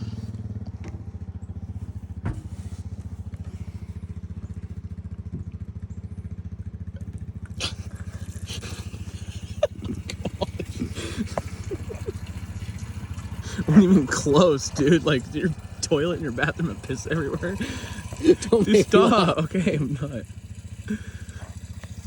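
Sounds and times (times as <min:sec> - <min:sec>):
lawnmower engine idling: 0:00.0 - 0:22.0.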